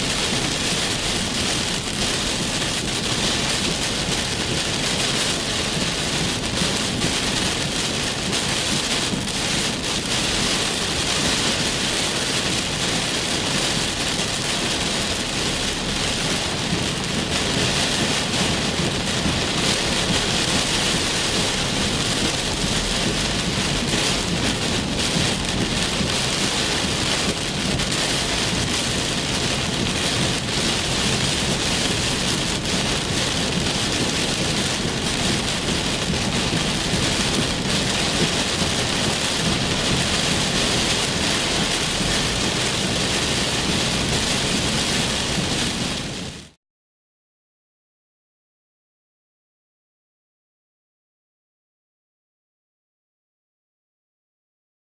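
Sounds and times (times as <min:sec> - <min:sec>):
heavy rain falling: 0:00.0 - 0:46.6.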